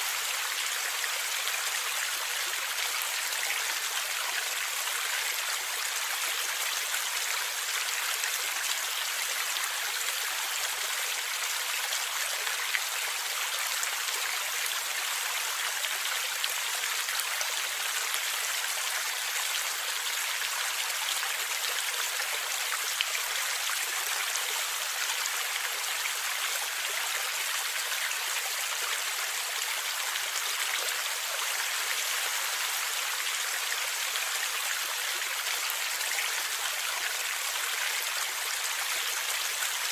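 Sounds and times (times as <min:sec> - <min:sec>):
stream flowing and gurgling: 0:00.0 - 0:39.9.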